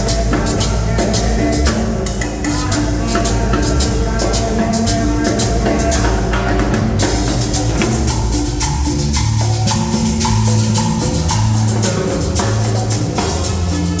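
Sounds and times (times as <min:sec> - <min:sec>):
hand percussion beat: 0:00.0 - 0:14.0
upbeat dance music: 0:00.0 - 0:14.0.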